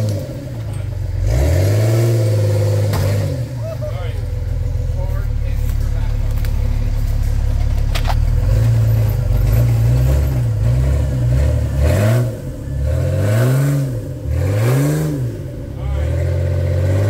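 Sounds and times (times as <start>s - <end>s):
car engine revving under load: 0.0s - 17.0s.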